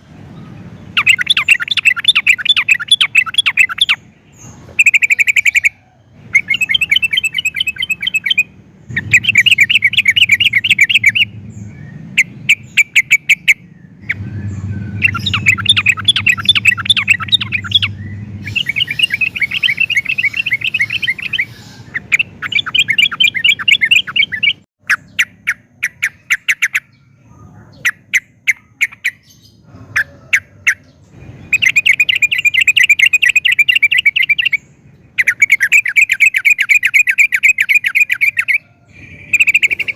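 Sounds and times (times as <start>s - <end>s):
bird singing chattering notes: 0.7s - 39.9s.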